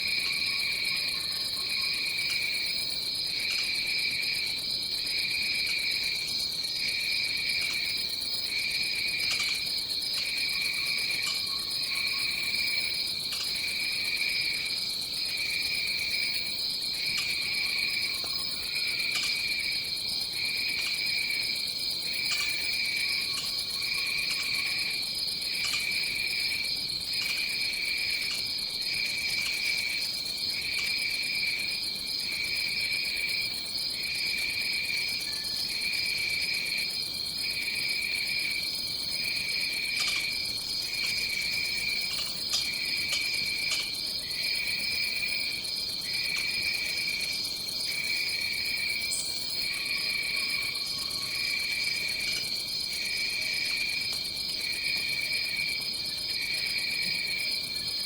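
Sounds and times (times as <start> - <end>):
insect chorus drone: 0.0 - 58.0
pulsing low insect trill: 0.0 - 58.0.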